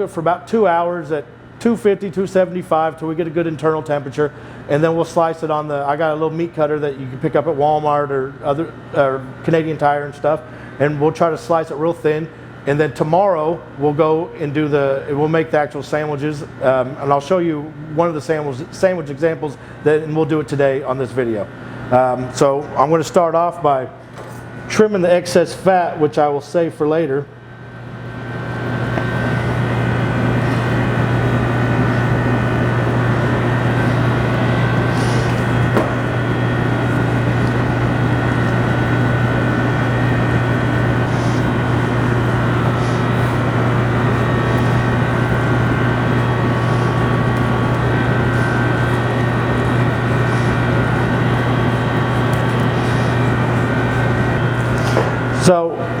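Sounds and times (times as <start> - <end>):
mechanical drone with low hum: 0.0 - 56.0.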